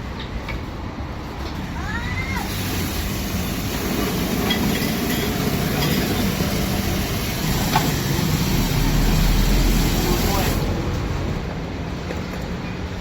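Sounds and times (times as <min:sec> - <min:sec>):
low traffic rumble: 0:00.0 - 0:13.0
street noise: 0:00.0 - 0:13.0.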